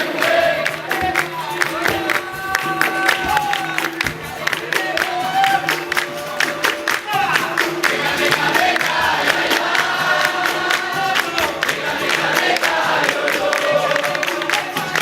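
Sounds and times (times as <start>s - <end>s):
group singing a chorus: 0.0s - 15.0s
sharp percussion beat: 0.0s - 15.0s.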